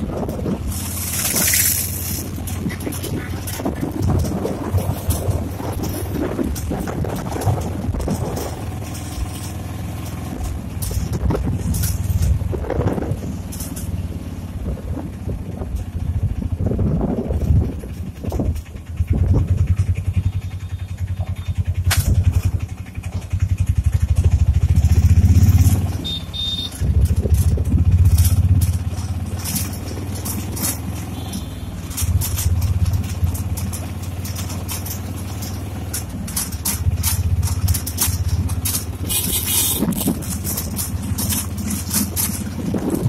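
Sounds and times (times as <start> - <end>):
wind buffeting microphone: 0.0 - 13.5, 14.5 - 20.3, 26.7 - 31.0, 31.8 - 43.0
motorcycle engine running: 0.0 - 43.0.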